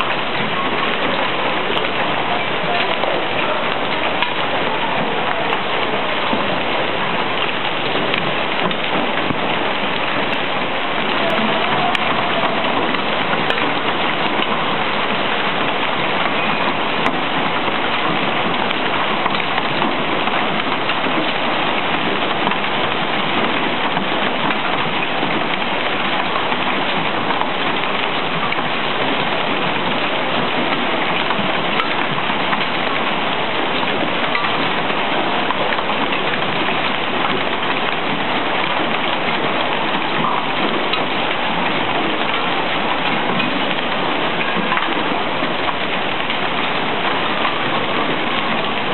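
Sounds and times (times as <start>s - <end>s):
hail and rain pelting: 0.0s - 48.9s.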